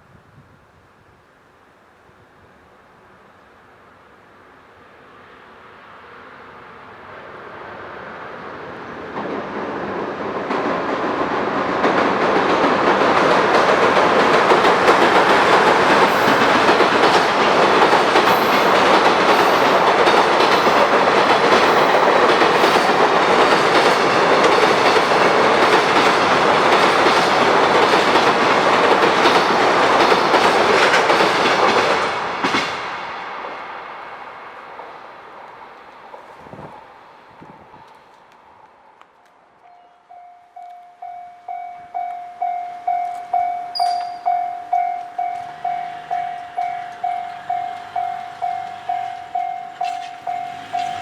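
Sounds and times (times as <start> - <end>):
freight train rolling past: 2.2 - 51.0.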